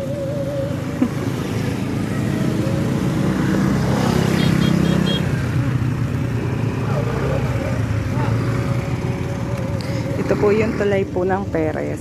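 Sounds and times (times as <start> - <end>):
motorcycle engine running: 0.0 - 12.0
street traffic: 0.0 - 12.0.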